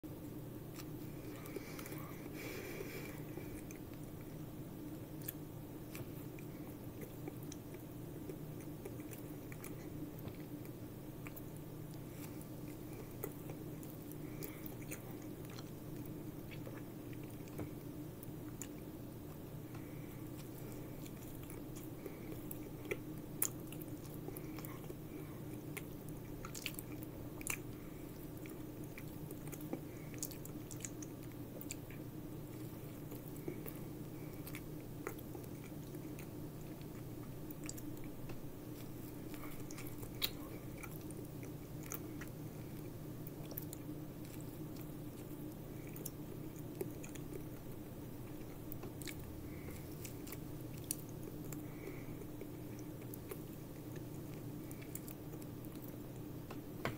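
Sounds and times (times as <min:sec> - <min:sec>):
steady low hum: 0:00.0 - 0:56.9
person chewing with wet smacks: 0:00.6 - 0:56.6.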